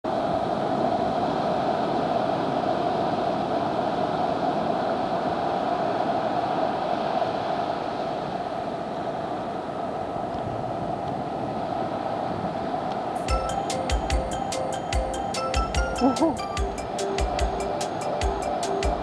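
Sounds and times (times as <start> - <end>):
surf washing up a beach: 0.1 - 19.0.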